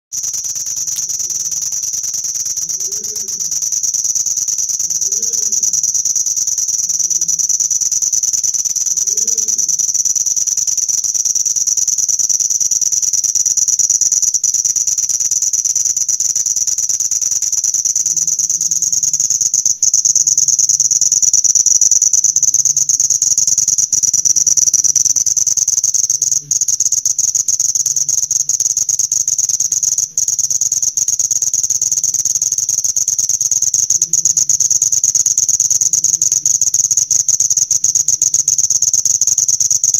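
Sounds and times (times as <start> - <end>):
insect shrill trill: 0.2 - 39.9.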